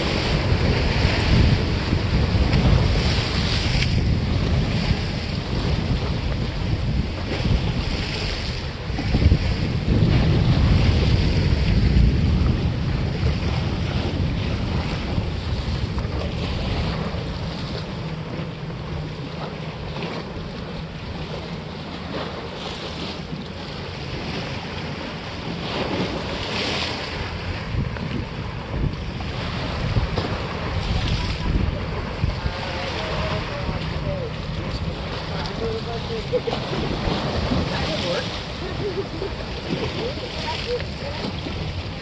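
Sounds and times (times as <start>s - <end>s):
sea water washing against rocks: 0.0s - 42.0s
wind buffeting microphone: 0.0s - 42.0s.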